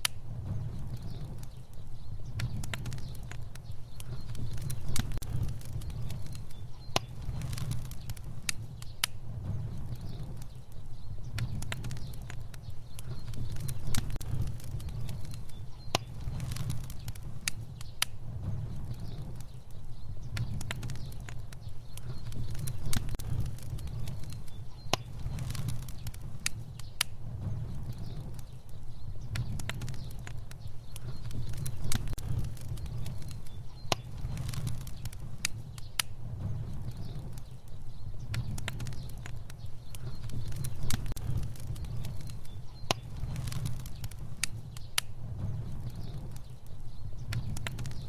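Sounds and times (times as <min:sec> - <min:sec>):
fire crackling and popping: 0:00.0 - 0:48.0
fire rumbling: 0:00.0 - 0:48.0.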